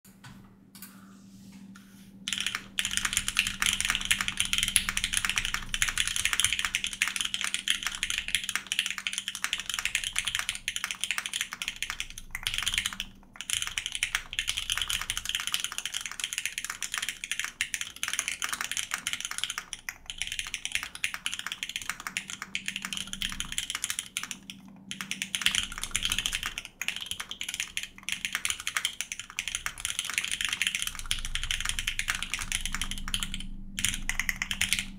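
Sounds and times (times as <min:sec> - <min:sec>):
mechanical keyboard typing: 0:02.3 - 0:34.9.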